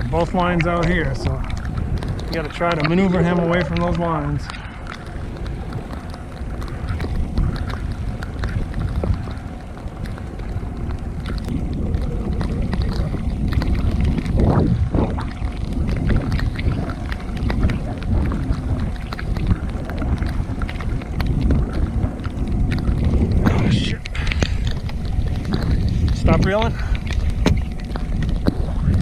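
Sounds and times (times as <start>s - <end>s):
boat rumble: 0.0s - 29.0s
wind buffeting microphone: 0.0s - 29.0s.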